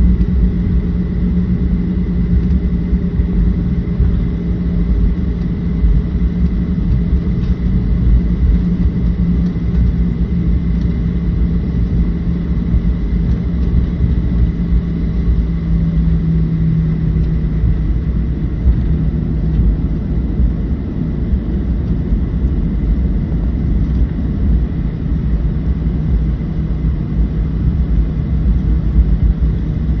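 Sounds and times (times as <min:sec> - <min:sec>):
jet engine rumble in cabin: 0:00.0 - 0:30.0
steady hum: 0:00.0 - 0:30.0.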